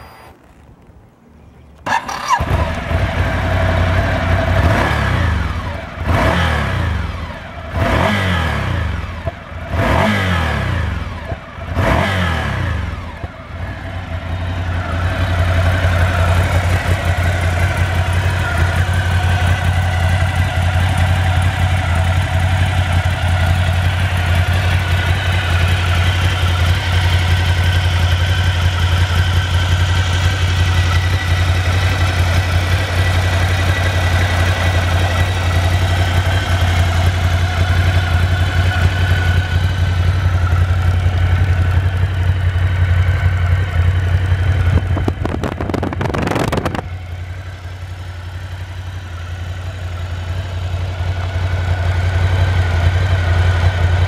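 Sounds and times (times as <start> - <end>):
motorcycle engine idling: 0.0 - 54.0
motorcycle engine revving: 1.8 - 54.0.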